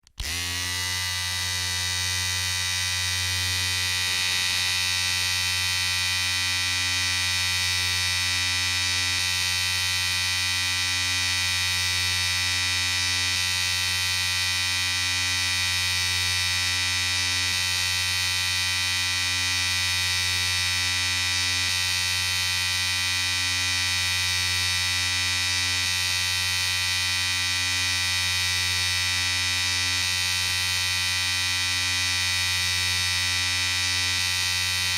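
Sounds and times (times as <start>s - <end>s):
electric shaver buzzing: 0.1s - 34.9s.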